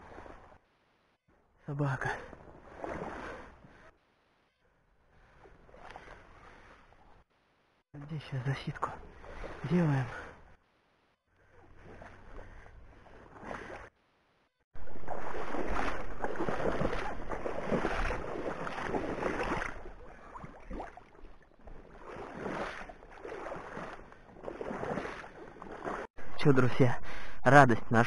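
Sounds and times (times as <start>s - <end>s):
person wading through water: 0.0s - 0.6s, 1.4s - 7.4s, 8.2s - 10.6s, 11.3s - 14.0s, 14.8s - 27.8s.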